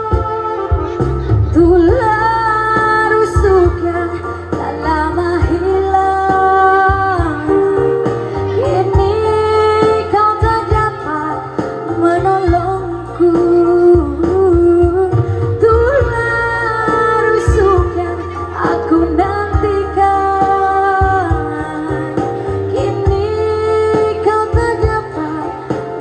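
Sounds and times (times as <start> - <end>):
instrumental backing: 0.0 - 26.0
woman singing: 0.0 - 26.0.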